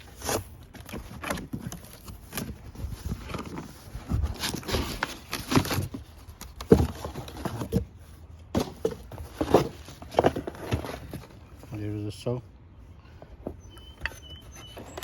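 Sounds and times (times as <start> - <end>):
packaging rustling and scraping: 0.0 - 11.8, 13.5 - 15.0.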